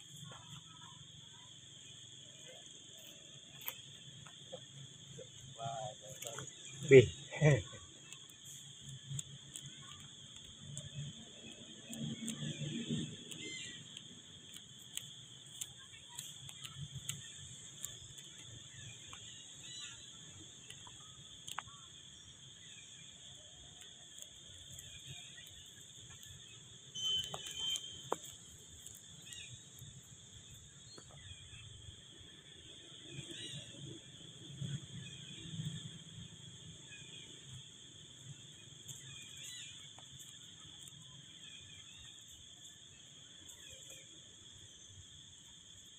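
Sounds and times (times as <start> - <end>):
high-pitched insect drone: 0.0 - 45.9.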